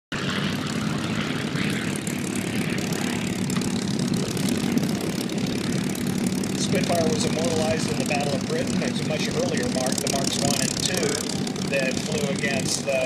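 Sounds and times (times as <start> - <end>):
propeller plane engine droning: 0.1 - 13.0.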